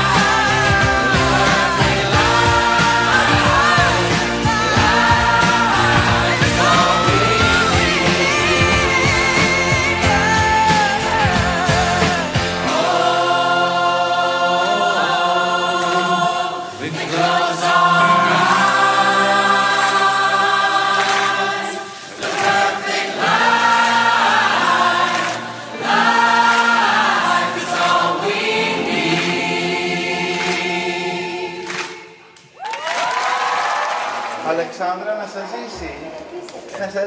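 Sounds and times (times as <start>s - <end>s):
choir singing held chords: 0.0s - 32.5s.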